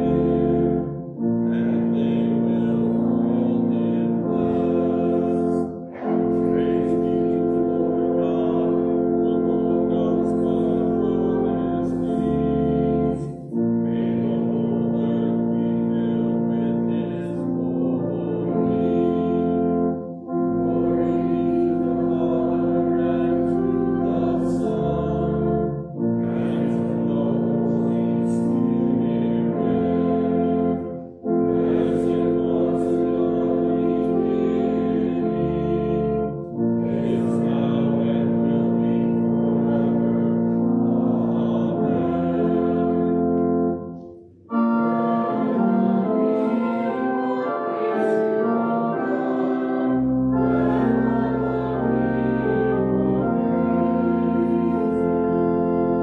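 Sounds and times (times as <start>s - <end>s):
organ playing a hymn: 0.0s - 56.0s.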